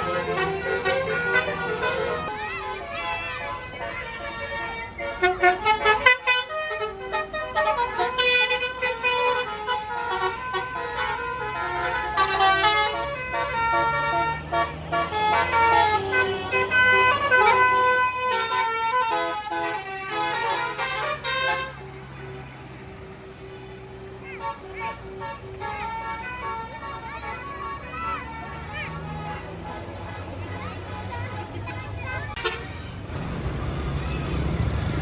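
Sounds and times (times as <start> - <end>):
bus horn playing melody: 0.0 - 32.9
bus engine running: 0.0 - 35.0.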